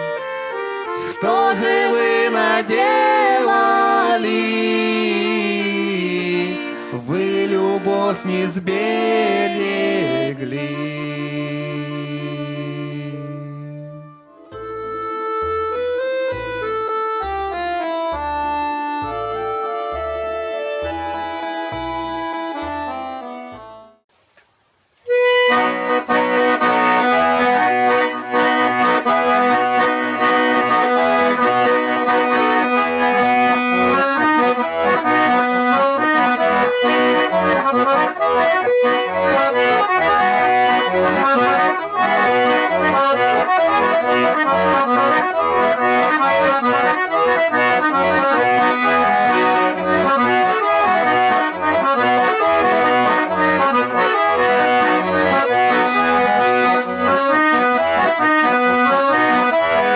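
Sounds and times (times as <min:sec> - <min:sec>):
accordion folk tune: 0:00.0 - 0:24.0, 0:25.1 - 0:59.9.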